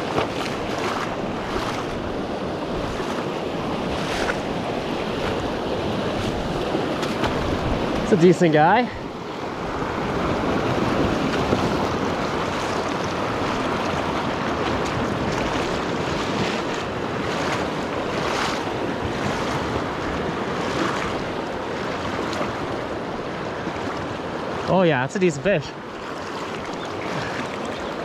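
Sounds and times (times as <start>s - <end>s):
faint water splashes: 0.0s - 28.0s
river current rushing: 0.0s - 28.0s.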